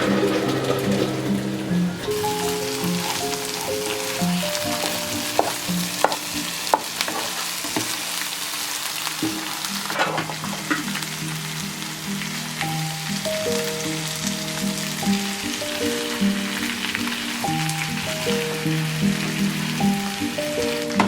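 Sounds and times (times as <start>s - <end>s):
background music with held notes: 0.0s - 21.0s
fish sizzling in hot oil: 0.0s - 21.0s.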